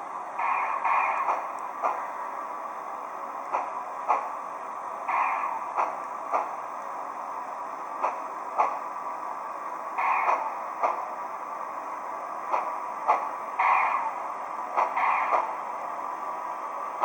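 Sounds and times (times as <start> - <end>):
steady background hiss: 0.0 - 17.0
steam hiss bursts: 0.0 - 17.0
steam locomotive beats: 0.0 - 17.0.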